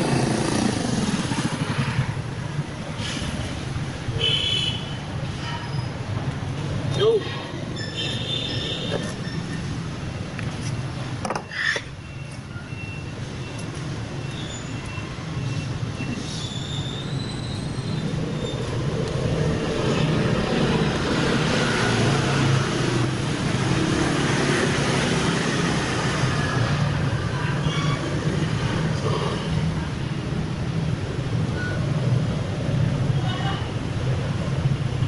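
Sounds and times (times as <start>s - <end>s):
traffic engine hum and road noise: 0.0s - 35.0s.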